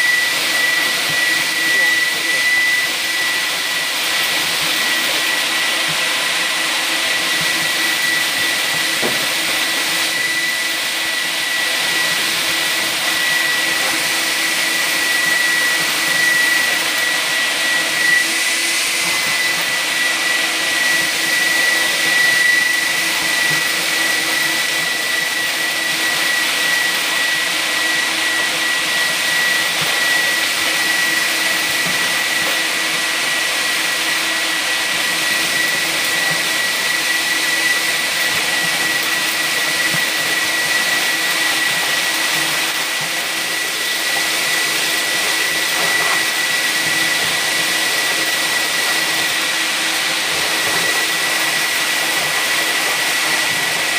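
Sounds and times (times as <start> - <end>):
industrial vacuum cleaner running: 0.0 - 53.9.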